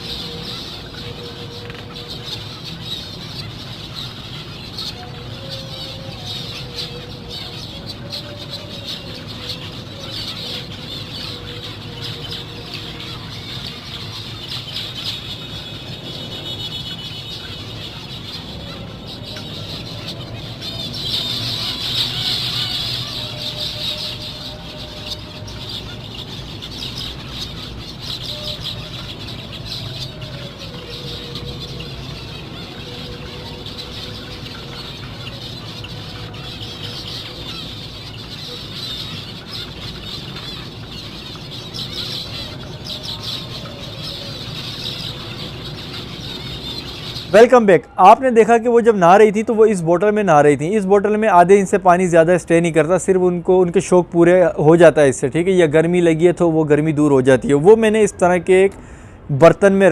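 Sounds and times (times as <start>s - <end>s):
finches chattering calls: 0.0s - 59.9s.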